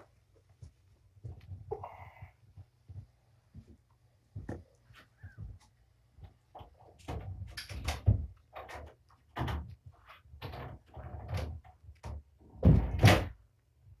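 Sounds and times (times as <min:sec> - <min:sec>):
rustling and scuffling: 0:00.0 - 0:11.7.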